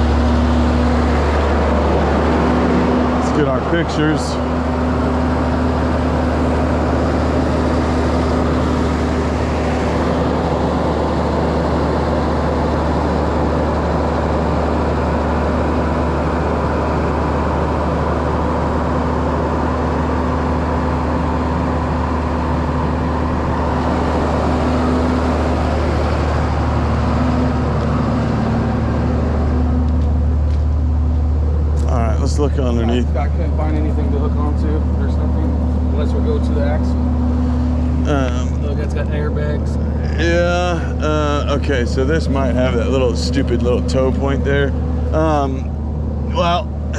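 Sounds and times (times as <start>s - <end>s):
tow truck engine running: 0.0s - 46.9s.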